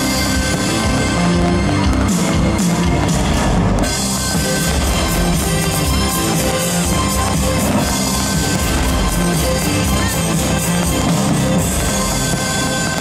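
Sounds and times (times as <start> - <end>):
loud rock music with beat: 0.0 - 13.0.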